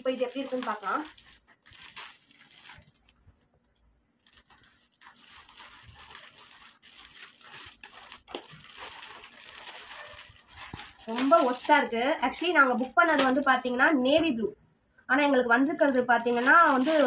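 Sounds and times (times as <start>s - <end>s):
plastic bag rustling: 0.0s - 3.5s, 4.2s - 14.0s, 15.8s - 17.0s.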